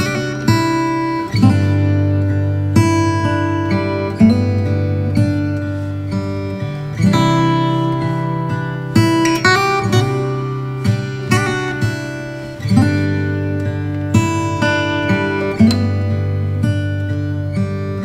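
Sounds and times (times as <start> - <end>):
acoustic guitar through loudspeaker: 0.0 - 18.0.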